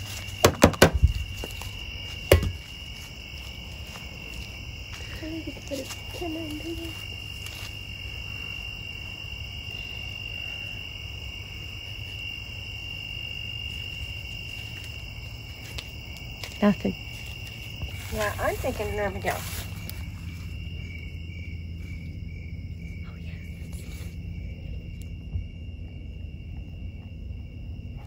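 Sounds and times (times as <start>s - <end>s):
night insects chorus: 0.0s - 28.0s.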